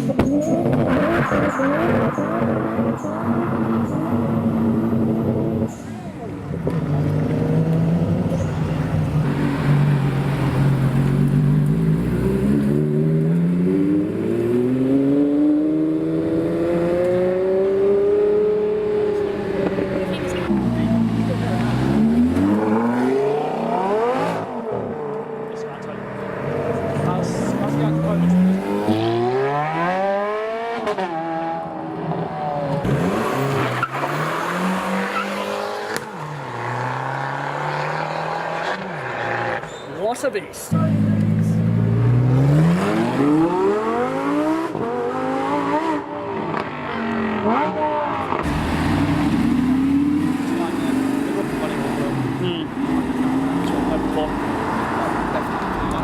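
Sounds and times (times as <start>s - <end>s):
car engine accelerating: 0.0s - 39.7s, 40.7s - 56.0s.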